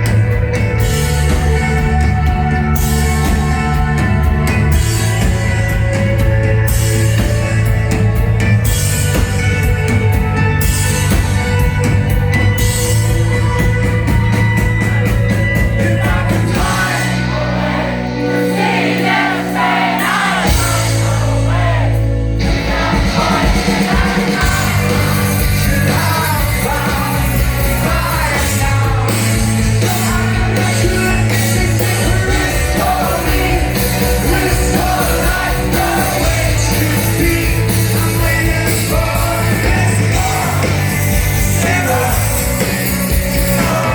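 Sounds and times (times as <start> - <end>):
live rock band: 0.0 - 43.9.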